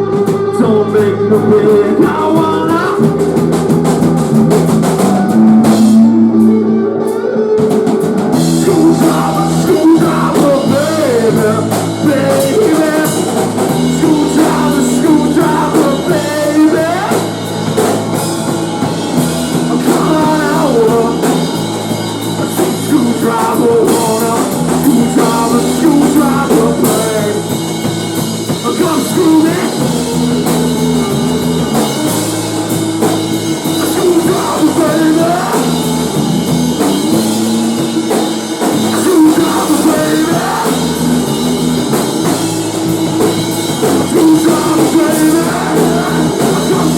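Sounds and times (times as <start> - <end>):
rock band playing: 0.0 - 46.9
sliding electric guitar lead: 0.0 - 46.9.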